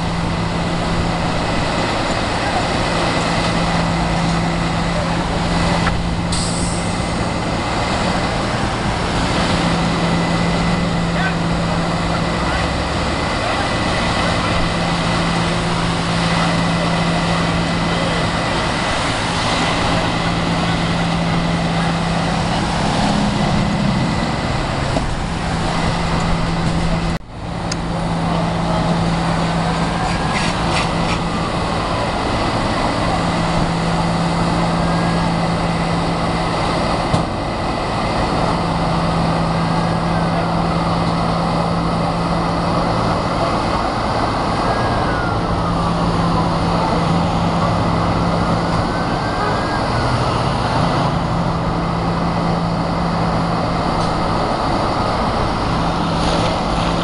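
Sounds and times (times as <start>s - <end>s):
heavy engine idling: 0.0s - 57.0s
roadside noise: 0.0s - 57.0s.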